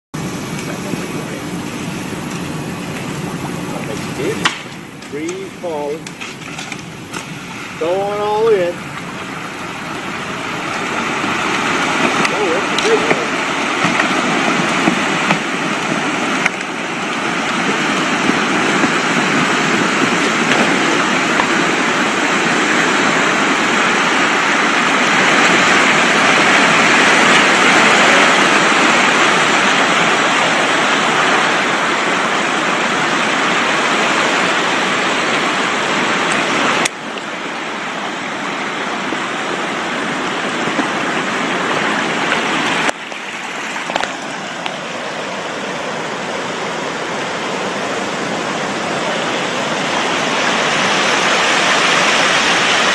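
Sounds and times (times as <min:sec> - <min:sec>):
water rushing and churning: 0:00.1 - 0:52.9
trees sliding into water: 0:00.2 - 0:52.9.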